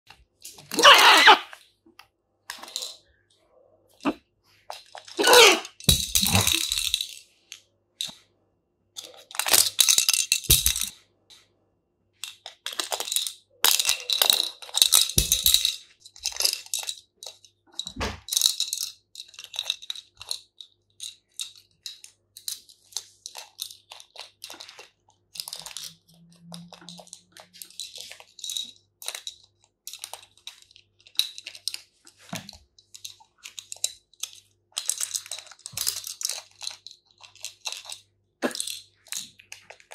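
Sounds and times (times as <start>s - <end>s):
plastic rattle toy rattling: 0.3s - 1.6s, 2.5s - 3.3s, 4.0s - 8.2s, 9.0s - 11.0s, 12.2s - 39.9s.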